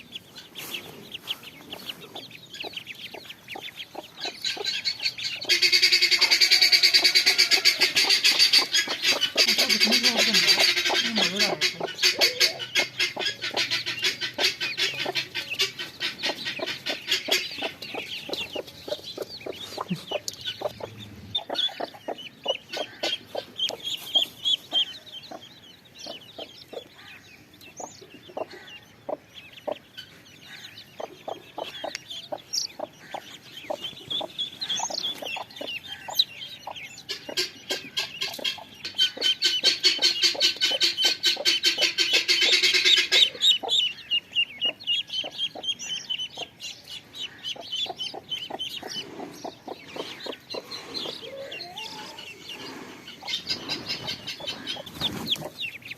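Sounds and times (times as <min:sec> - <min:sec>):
chickens clucking: 0:00.0 - 0:55.9
rapid high bird chirping: 0:00.0 - 0:55.9.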